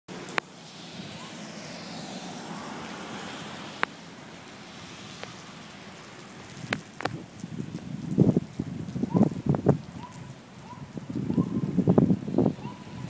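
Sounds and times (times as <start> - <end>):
rain: 0.1 - 13.0
storm wind roaring: 0.7 - 13.0.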